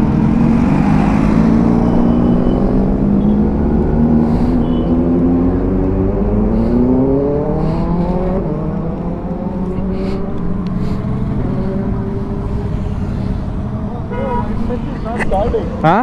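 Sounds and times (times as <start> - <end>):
motorcycle engines rising in pitch: 0.0 - 16.0.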